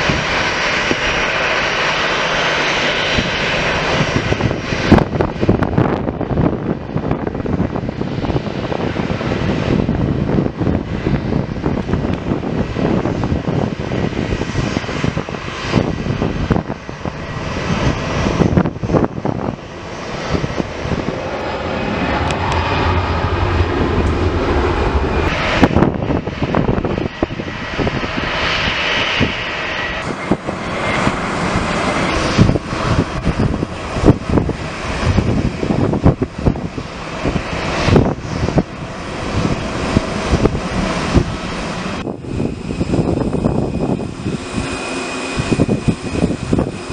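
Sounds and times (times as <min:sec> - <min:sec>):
aircraft engines running: 0:00.0 - 0:46.9.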